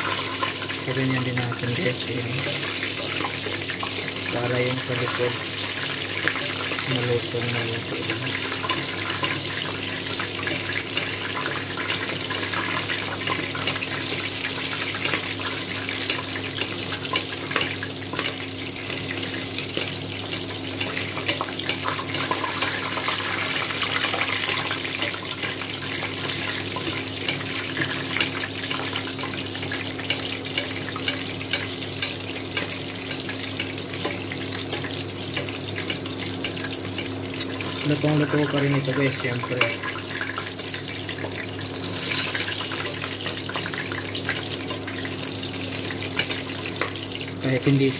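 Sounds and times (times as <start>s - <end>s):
chicken sizzling in hot oil: 0.0s - 47.9s.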